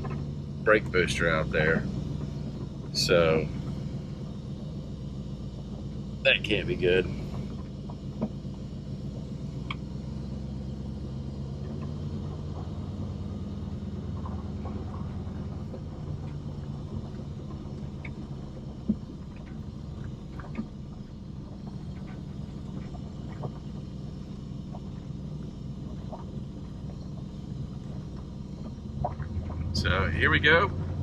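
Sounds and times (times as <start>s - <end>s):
truck engine and road rumble: 0.0s - 31.0s.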